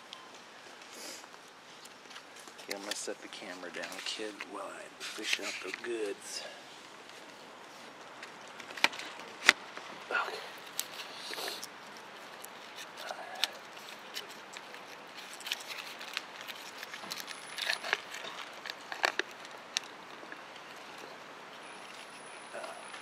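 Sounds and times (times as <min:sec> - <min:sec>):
rustling: 0:00.2 - 0:22.7.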